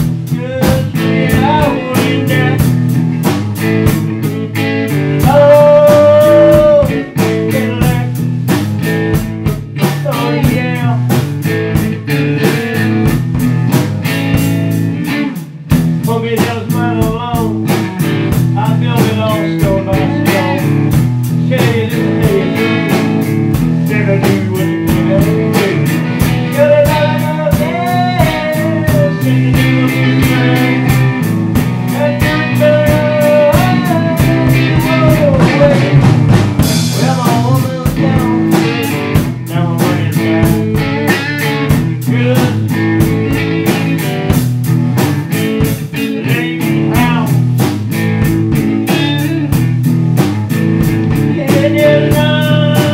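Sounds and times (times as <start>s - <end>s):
drum kit playing: 0.0s - 52.9s
electric guitar: 0.0s - 52.9s.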